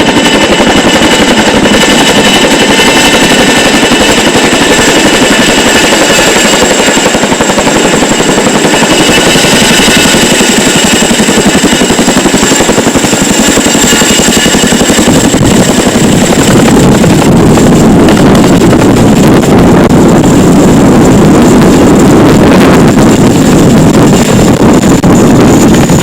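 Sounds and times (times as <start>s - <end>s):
helicopter rotor and engine: 0.0s - 26.0s
high turbine whine: 0.0s - 26.0s.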